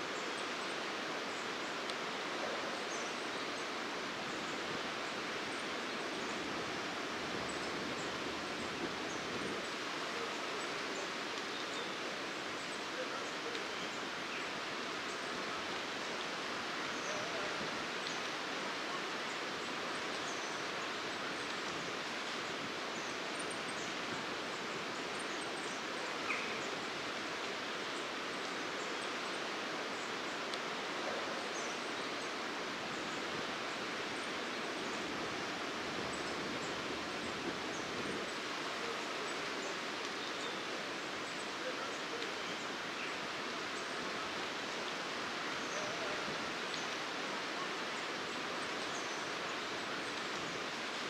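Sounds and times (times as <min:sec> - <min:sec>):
outdoor hiss: 0:00.0 - 0:51.0.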